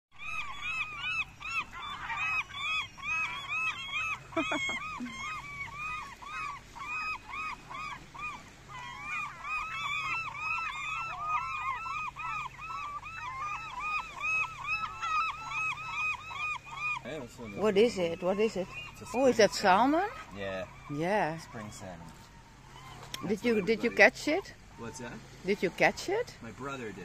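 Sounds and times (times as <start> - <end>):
gulls calling: 0.1 - 27.0.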